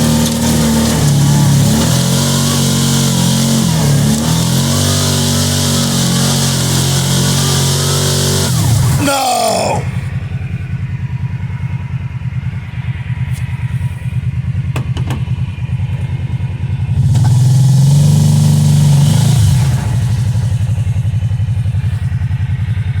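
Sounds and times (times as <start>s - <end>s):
engine idling and revving: 0.0s - 23.0s.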